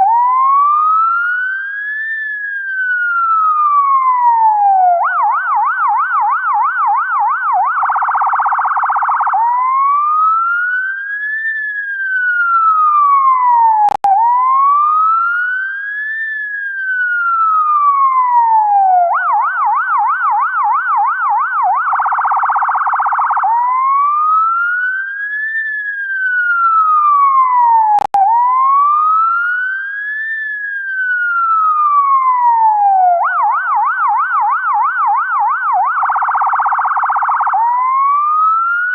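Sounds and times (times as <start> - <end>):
ambulance siren: 0.0 - 38.9.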